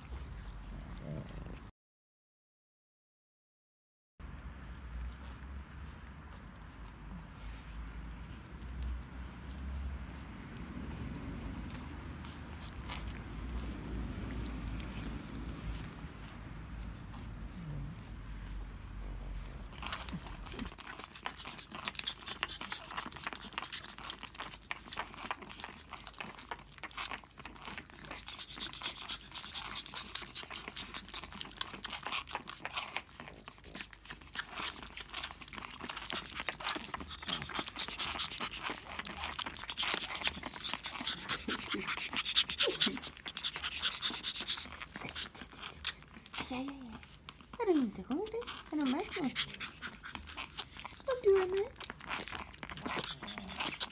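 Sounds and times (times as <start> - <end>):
puppies panting: 0.0 - 1.7, 4.2 - 53.9
puppies snuffling and suckling: 0.0 - 1.7, 4.2 - 53.9.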